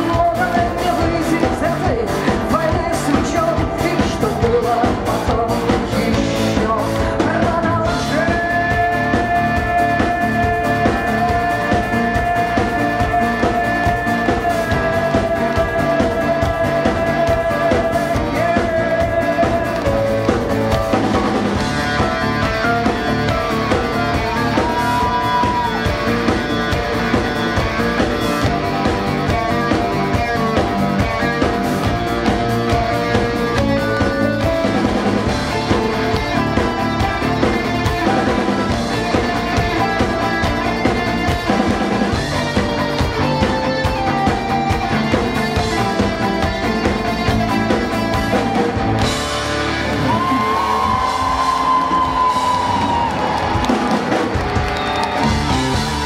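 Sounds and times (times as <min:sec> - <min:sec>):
bass guitar: 0:00.0 - 0:56.0
drum kit: 0:00.0 - 0:56.0
electric guitar: 0:00.0 - 0:56.0
keyboards: 0:00.0 - 0:56.0.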